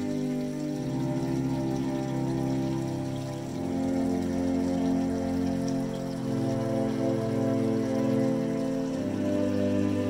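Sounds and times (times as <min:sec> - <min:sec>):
ambient synth drone: 0:00.0 - 0:10.0
water fountain trickling: 0:00.0 - 0:10.0.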